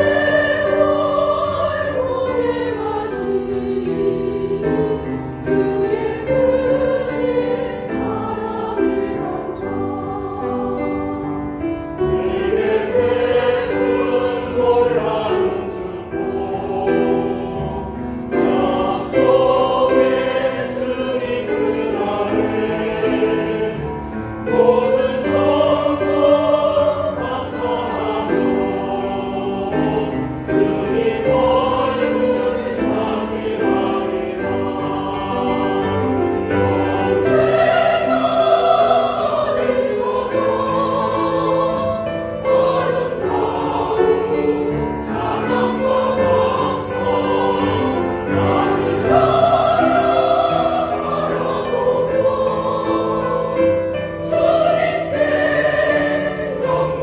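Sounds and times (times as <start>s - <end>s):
church choir singing: 0.0s - 57.0s
piano accompaniment: 0.0s - 57.0s.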